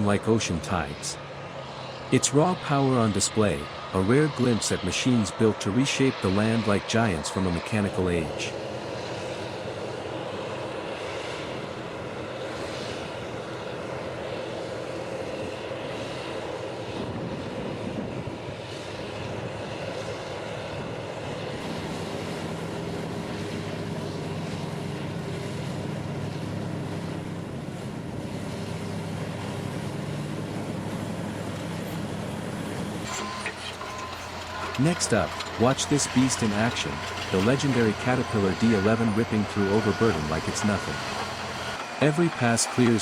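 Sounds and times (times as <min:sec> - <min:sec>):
bulldozer diesel engines droning: 0:00.0 - 0:43.0.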